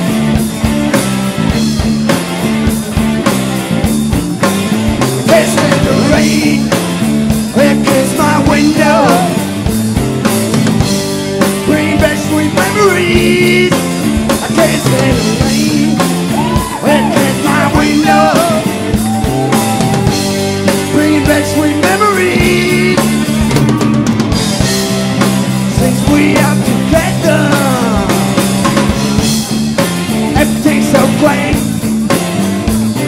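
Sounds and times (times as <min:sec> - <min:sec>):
rock band playing live: 0:00.0 - 0:33.0.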